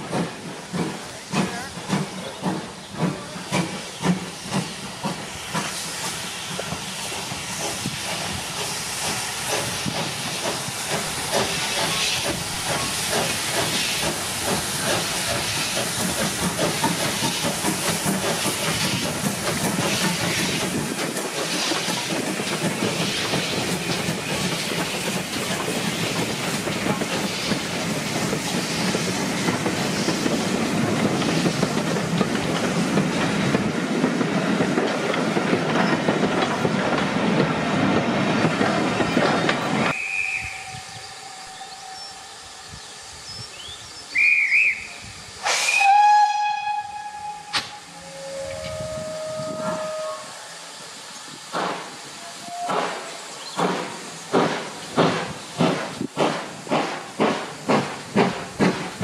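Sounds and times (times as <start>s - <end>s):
steam hissing: 0.0s - 59.0s
steam locomotive exhaust beats: 0.0s - 59.0s
train carriages rolling past: 0.0s - 59.0s.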